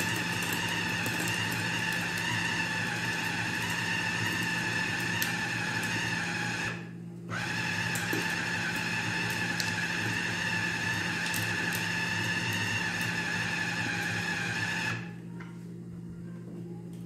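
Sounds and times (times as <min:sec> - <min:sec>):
electric food chopper whining: 0:00.0 - 0:15.2.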